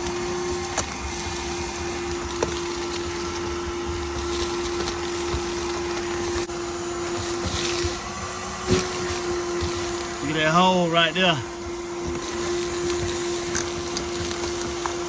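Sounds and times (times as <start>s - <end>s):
vacuum cleaner humming: 0.0s - 15.0s.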